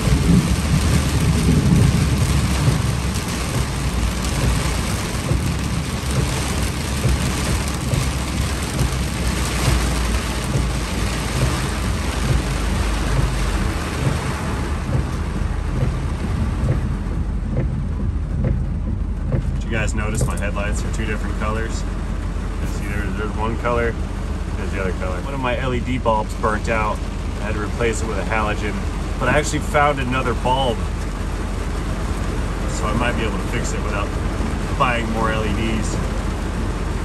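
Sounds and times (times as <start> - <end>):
heavy rain pelting a vehicle: 0.0 - 37.0
road and engine rumble: 0.0 - 37.0.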